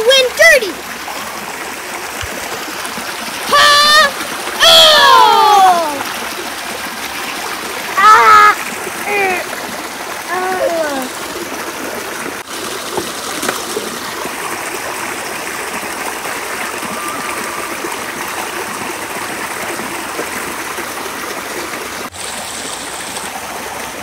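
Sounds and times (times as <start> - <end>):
creek water rushing over stones: 0.0 - 24.0.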